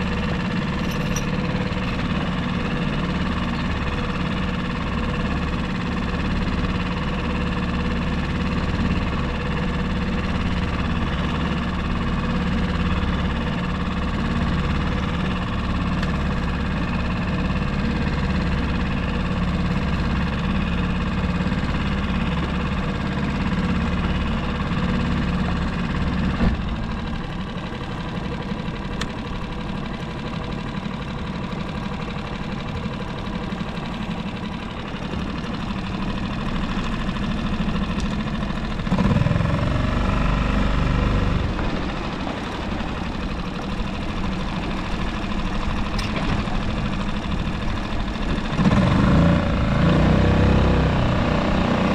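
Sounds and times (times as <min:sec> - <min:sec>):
outboard motor running: 0:00.0 - 0:51.9.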